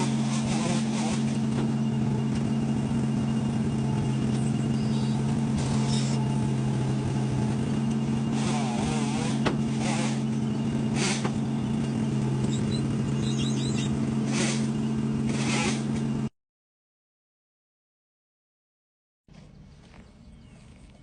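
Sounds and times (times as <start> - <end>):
engine running steadily: 0.0 - 16.3, 19.3 - 21.0.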